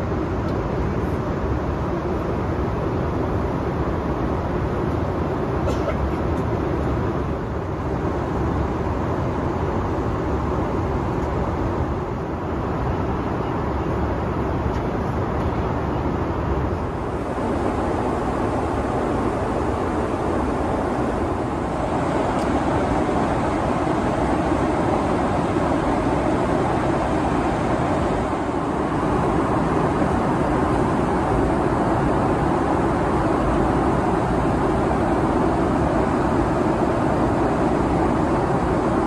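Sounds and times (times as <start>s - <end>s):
airliner cabin noise: 0.0s - 39.0s.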